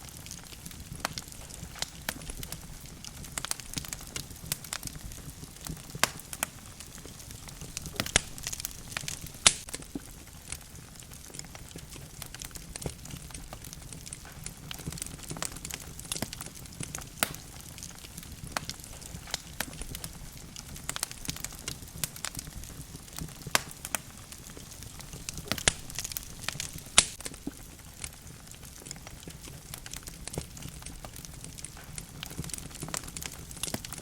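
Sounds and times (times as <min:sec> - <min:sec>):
fire crackling and popping: 0:00.0 - 0:34.0
low roar of flames: 0:00.0 - 0:34.0.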